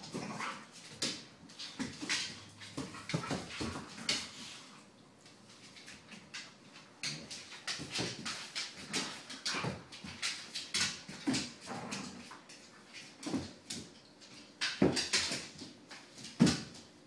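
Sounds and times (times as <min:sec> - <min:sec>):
dogs scuffling: 0:00.0 - 0:17.0.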